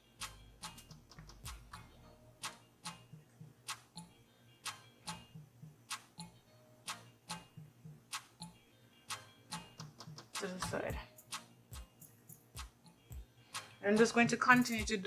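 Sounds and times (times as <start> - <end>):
music with ticking clock-like beat: 0.0 - 15.0.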